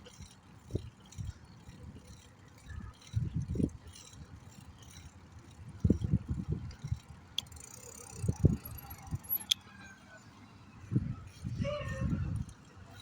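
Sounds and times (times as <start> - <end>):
bicycle rattling and knocking: 0.0 - 9.6, 10.8 - 13.0.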